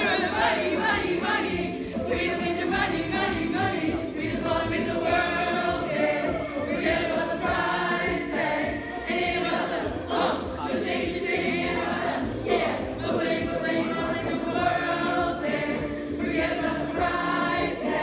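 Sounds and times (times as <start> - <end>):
young women singing and chanting: 0.0 - 18.0.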